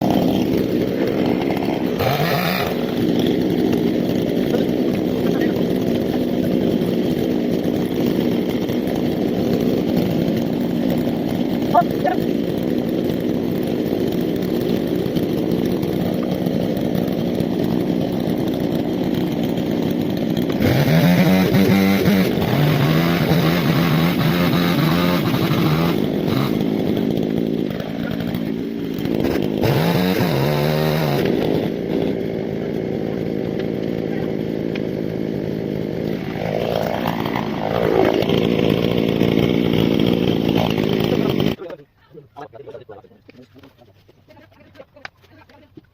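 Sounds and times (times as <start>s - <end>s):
chainsaw engine revving: 0.0s - 41.8s.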